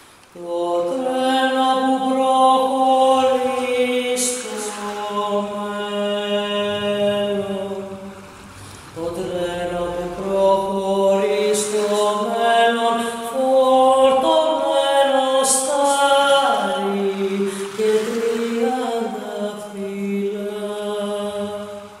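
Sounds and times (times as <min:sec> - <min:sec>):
person singing slow melody: 0:00.0 - 0:22.0.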